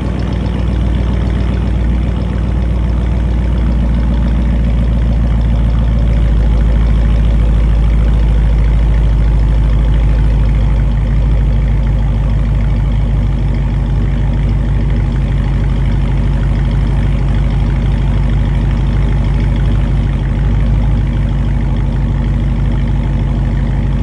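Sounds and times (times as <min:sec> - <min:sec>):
engine idling with deep rumble: 0:00.0 - 0:24.0.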